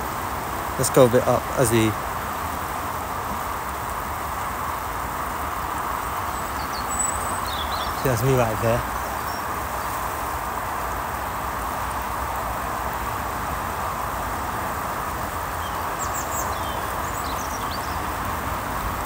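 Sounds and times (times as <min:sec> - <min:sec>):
distant motorway traffic roar: 0:00.0 - 0:19.0.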